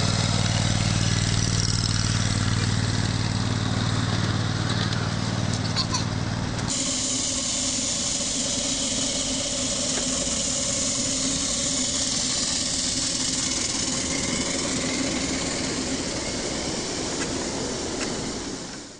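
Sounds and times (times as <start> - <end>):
miniature train engine hum: 0.0 - 18.9
wheels rolling on rails: 0.0 - 18.9.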